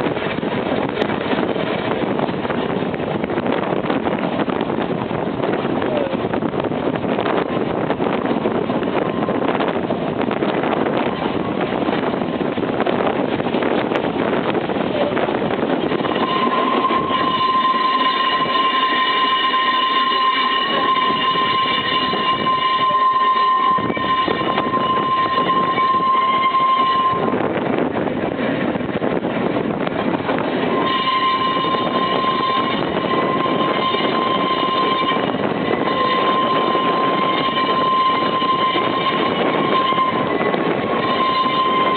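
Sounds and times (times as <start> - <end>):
high whine: 0.0 - 41.9
tram rumbling and rattling on track: 0.0 - 41.9.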